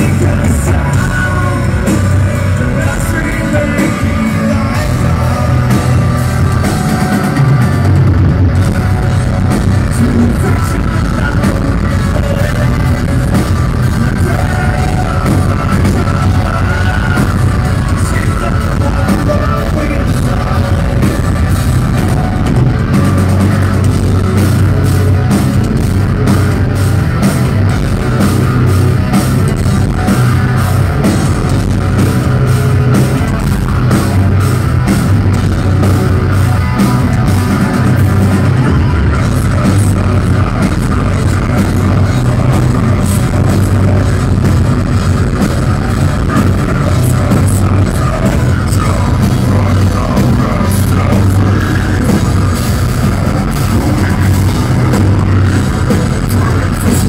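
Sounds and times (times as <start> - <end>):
man singing: 0.0 - 7.9, 8.5 - 26.8, 29.4 - 57.0
rock band playing: 0.0 - 57.0.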